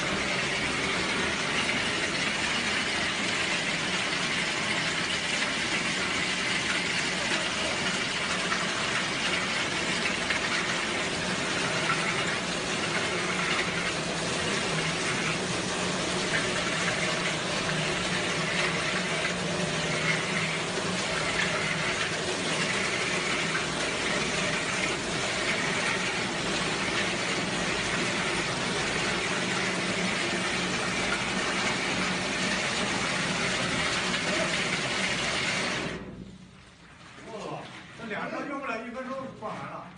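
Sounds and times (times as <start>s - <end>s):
concrete pump humming: 0.0s - 39.9s
wet concrete feeding into hopper: 0.0s - 39.9s.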